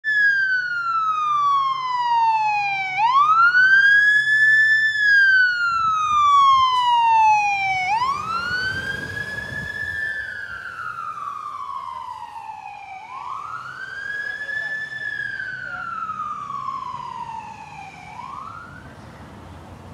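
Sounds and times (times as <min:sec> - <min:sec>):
electronic siren wailing: 0:00.1 - 0:18.9
diesel engine rumble: 0:00.6 - 0:19.9.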